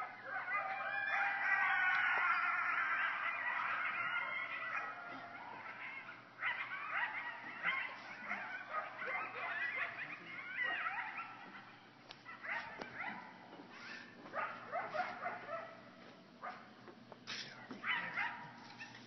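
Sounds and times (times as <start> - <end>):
coyotes howling and yipping: 0.0 - 15.8.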